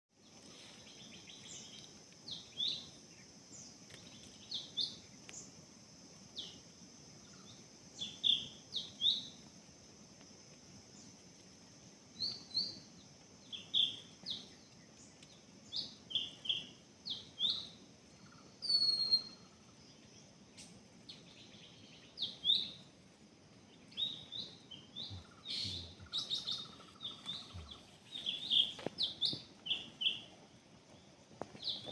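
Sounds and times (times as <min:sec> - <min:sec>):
bird chirping: 0:00.2 - 0:09.5, 0:10.9 - 0:31.9.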